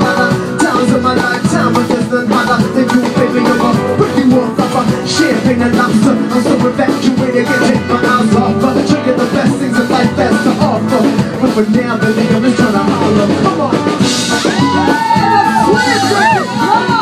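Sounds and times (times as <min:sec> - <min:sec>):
live band playing loud music: 0:00.0 - 0:17.0.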